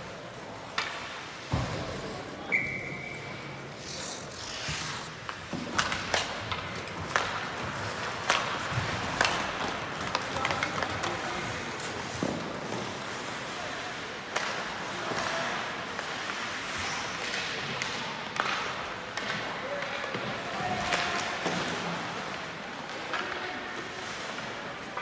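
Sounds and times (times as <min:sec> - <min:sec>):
hockey sticks and puck clacking: 0:00.2 - 0:25.0.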